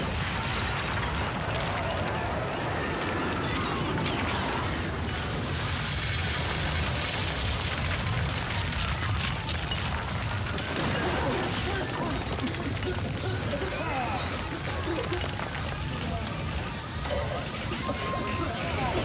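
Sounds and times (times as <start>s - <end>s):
explosion and crash rumbling: 0.0s - 19.0s.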